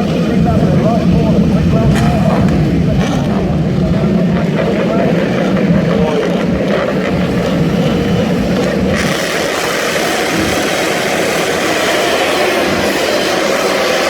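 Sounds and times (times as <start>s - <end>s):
racing motorcycle engines revving: 0.0s - 14.0s.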